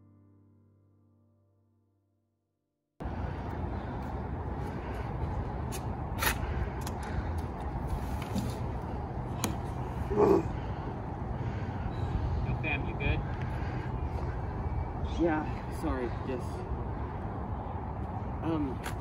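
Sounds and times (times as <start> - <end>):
low outdoor rumble: 3.0 - 18.8.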